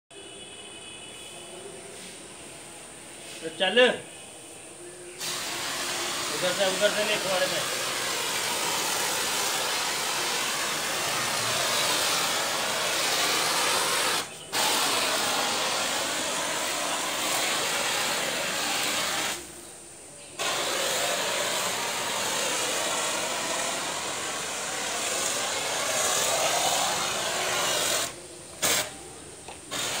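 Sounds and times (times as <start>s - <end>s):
pressure washer spraying foam: 5.2s - 19.7s, 20.4s - 30.0s.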